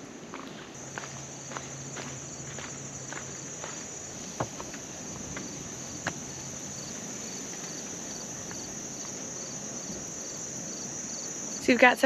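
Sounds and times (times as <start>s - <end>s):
insect chirp: 0.0s - 12.0s.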